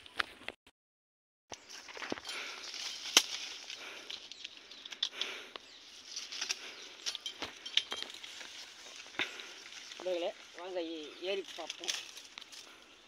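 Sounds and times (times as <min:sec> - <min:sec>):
branches rustling: 0:01.5 - 0:13.0
twigs cracking and snapping: 0:01.5 - 0:13.0.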